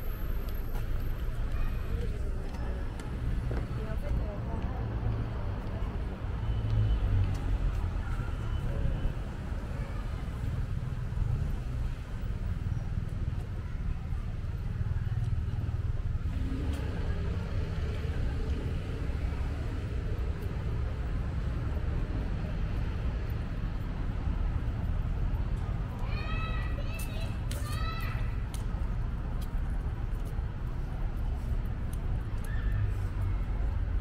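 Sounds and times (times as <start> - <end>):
distant traffic rumble: 0.0 - 34.0
faint urban hum: 0.0 - 34.0.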